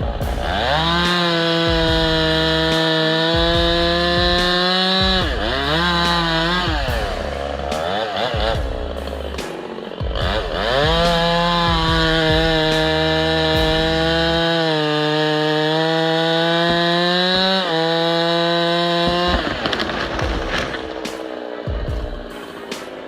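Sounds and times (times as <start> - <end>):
chainsaw revving and cutting: 0.0 - 23.0.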